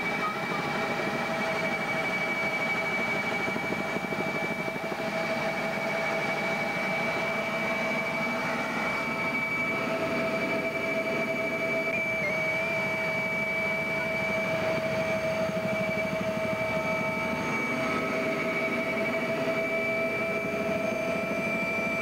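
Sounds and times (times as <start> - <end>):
helicopter engine and rotor noise: 0.0 - 22.0
helicopter mechanical whine: 0.0 - 22.0.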